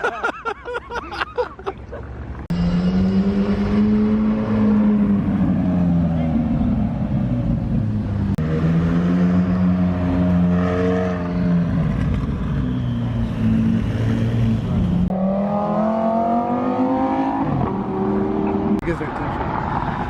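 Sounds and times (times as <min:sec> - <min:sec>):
car engines revving: 0:00.6 - 0:20.0.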